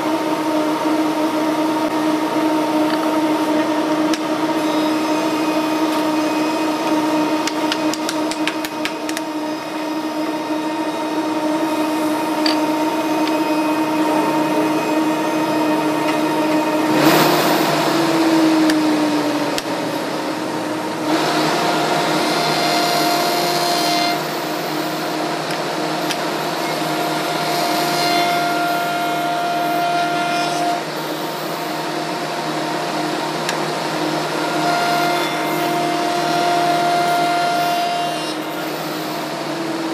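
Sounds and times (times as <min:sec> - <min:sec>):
spindle shaper whine: 0:00.0 - 0:39.9
cutter shaping wood: 0:01.7 - 0:39.9.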